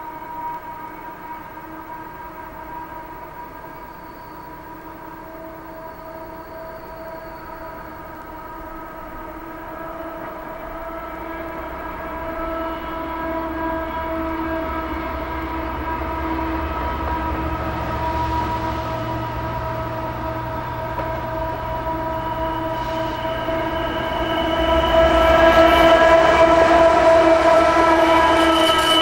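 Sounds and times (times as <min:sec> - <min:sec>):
diesel locomotive engine rumble: 0:00.0 - 0:29.0
steady high-pitched tone: 0:00.0 - 0:29.0.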